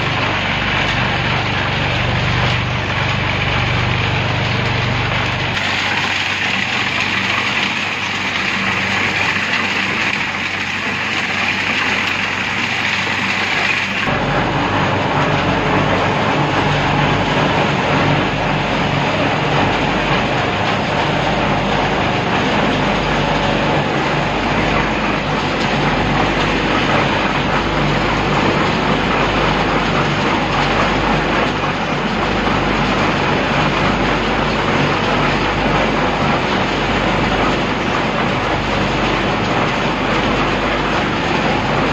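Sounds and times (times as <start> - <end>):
concrete mixer churning: 0.0 - 41.9.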